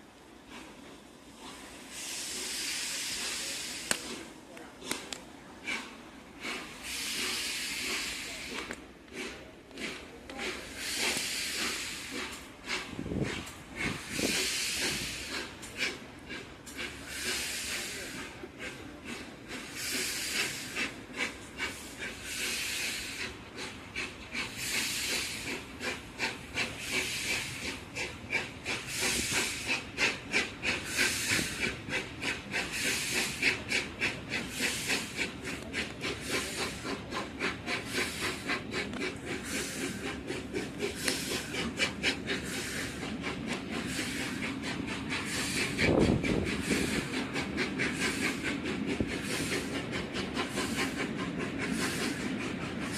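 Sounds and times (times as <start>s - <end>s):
steam locomotive exhaust hissing: 0.0s - 52.9s
train rumbling on rails: 0.0s - 52.9s.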